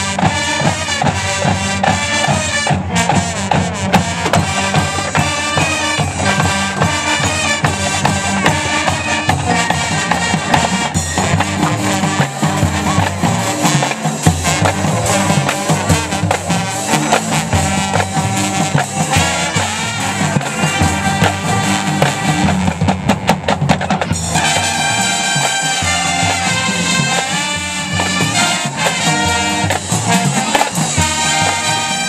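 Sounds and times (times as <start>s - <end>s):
drum strokes: 0.0s - 32.0s
marching band playing: 0.0s - 32.0s.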